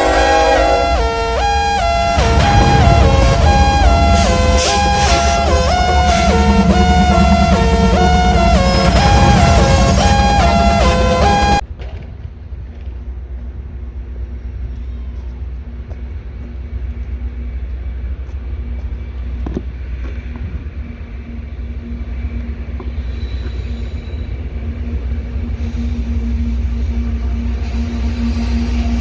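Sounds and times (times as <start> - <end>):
freight train passing: 0.0 - 29.0.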